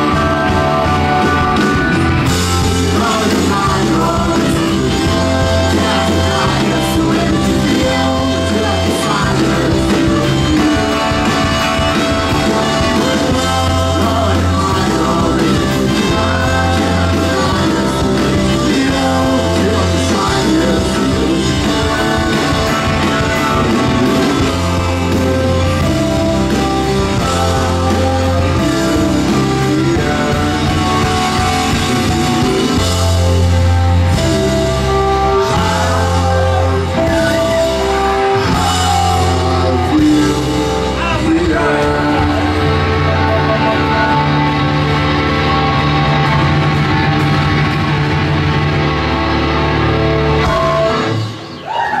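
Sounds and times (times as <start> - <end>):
person singing: 0.0 - 46.6
live rock band playing: 0.0 - 52.0.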